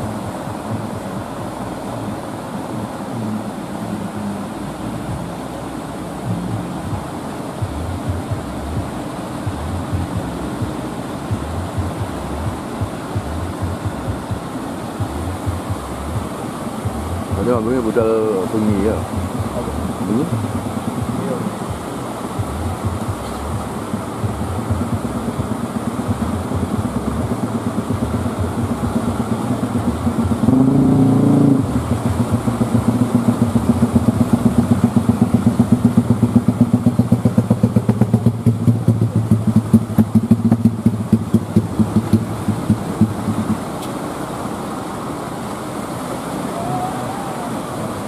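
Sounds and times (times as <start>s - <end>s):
boat engine pulsing: 0.0s - 48.0s.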